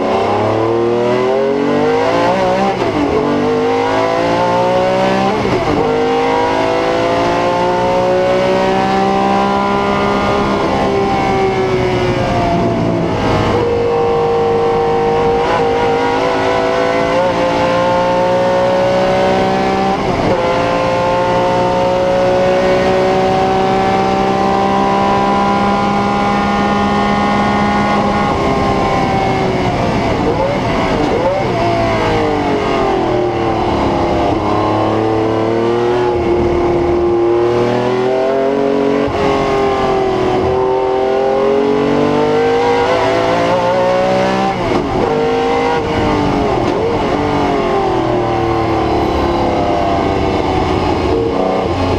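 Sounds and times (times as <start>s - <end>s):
car engine at full throttle: 0.0s - 51.9s.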